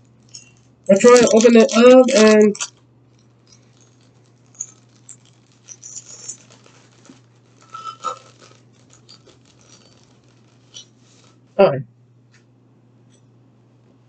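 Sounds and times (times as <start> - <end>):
plastic sleeve crinkling: 0.0 - 11.5.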